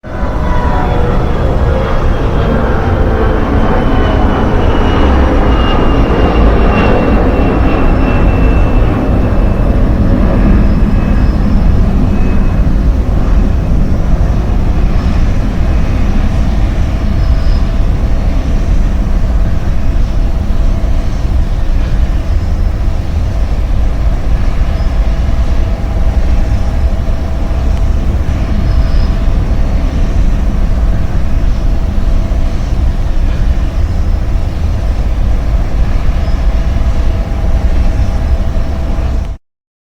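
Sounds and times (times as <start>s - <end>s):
airplane engine rumble: 0.0s - 39.4s
thin engine whine falling in pitch: 0.0s - 39.4s.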